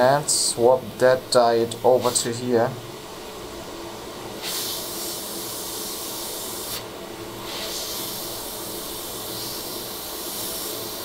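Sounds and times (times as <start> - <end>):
hot-air station hissing: 0.0 - 11.0.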